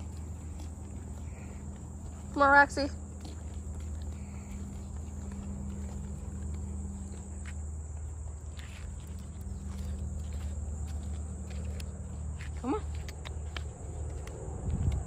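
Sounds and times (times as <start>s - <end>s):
footsteps on paved path: 0.0s - 15.0s
insects droning: 0.0s - 15.0s
low steady rumble: 0.0s - 15.0s.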